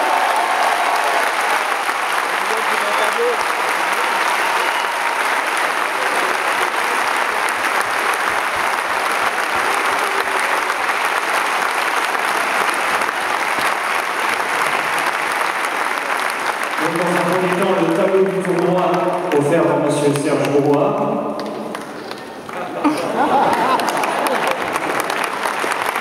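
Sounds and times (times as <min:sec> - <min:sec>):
crowd applauding: 0:00.0 - 0:26.0.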